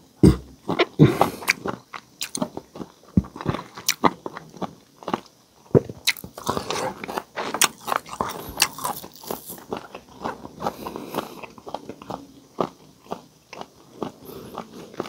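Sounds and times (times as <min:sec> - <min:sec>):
crunchy chewing: 0:00.3 - 0:15.0.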